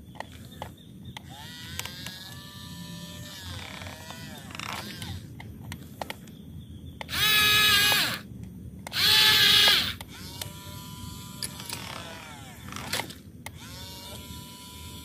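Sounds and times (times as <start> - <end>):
toy gear motors whining: 0.5 - 5.3, 7.0 - 8.3, 8.9 - 15.0.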